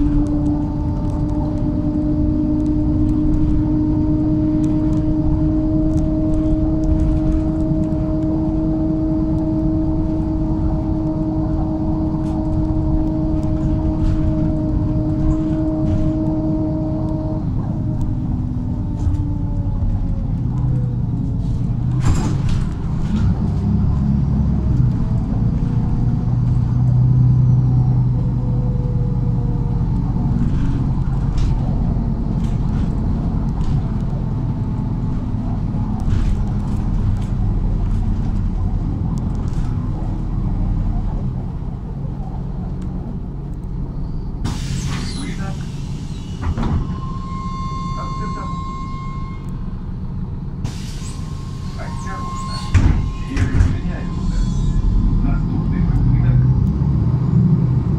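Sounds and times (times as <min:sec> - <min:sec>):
bus engine rumble: 0:00.0 - 0:57.9.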